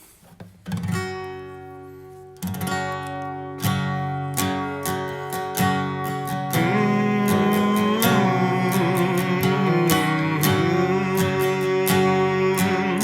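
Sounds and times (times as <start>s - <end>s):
acoustic guitar strumming chords: 0.6s - 13.0s.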